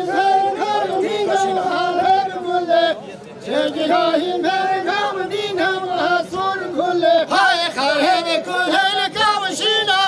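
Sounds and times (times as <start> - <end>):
men singing folk song: 0.0 - 10.0.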